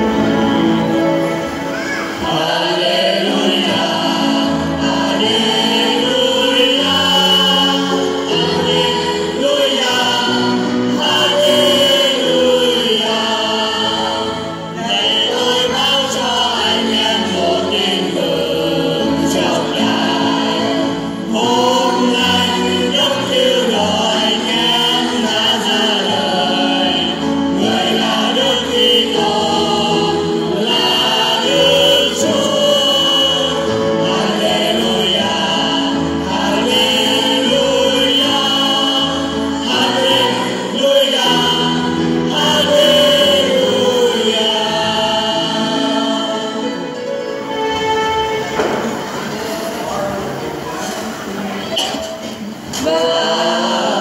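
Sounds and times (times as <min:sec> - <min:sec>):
church choir singing: 0:00.0 - 0:54.0
instrumental accompaniment: 0:00.0 - 0:54.0.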